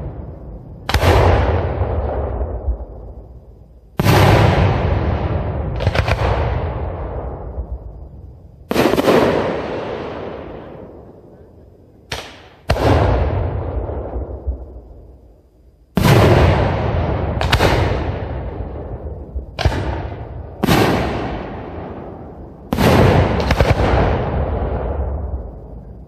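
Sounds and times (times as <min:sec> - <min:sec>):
firework shells booming: 0:00.0 - 0:03.2, 0:03.9 - 0:08.0, 0:08.6 - 0:11.4, 0:12.0 - 0:14.9, 0:15.9 - 0:25.8.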